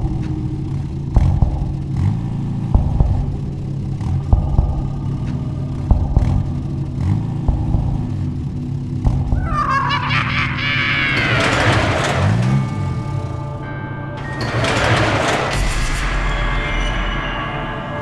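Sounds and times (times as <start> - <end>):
cartoon car engine rumble: 0.0 - 16.2
regular thumps: 0.0 - 16.3.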